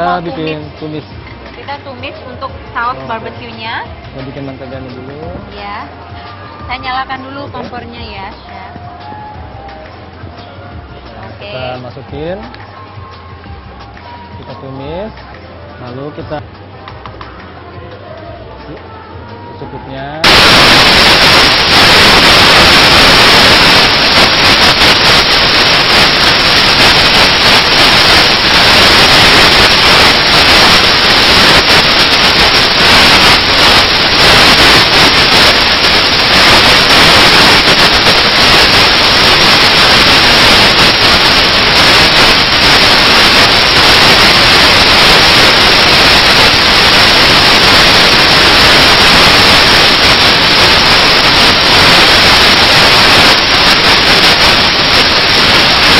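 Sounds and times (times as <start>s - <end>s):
static hiss: 0.0s - 55.9s.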